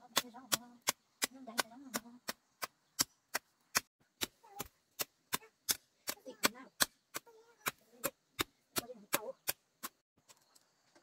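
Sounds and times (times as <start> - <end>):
garden hoe striking ground: 0.0 - 11.0.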